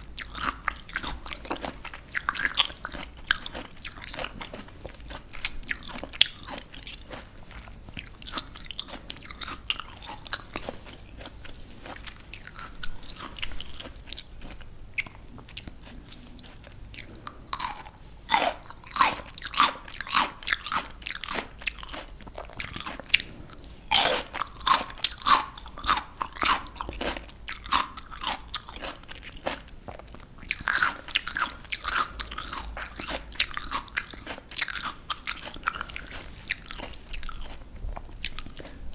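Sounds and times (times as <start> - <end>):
crunching raw vegetables: 0.0 - 38.9.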